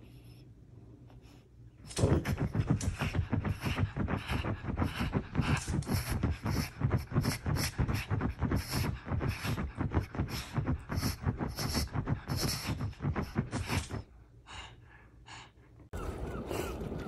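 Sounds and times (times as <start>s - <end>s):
quick huffing breaths: 2.3s - 17.0s.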